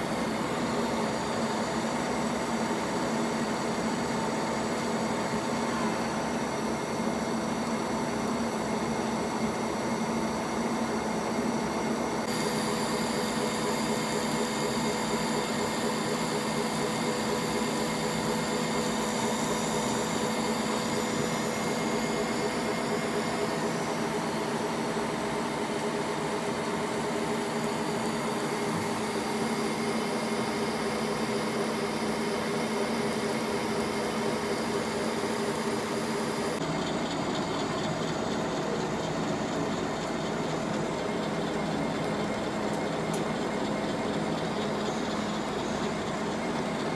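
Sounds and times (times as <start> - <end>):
metal lathe humming and whining: 0.0 - 46.9.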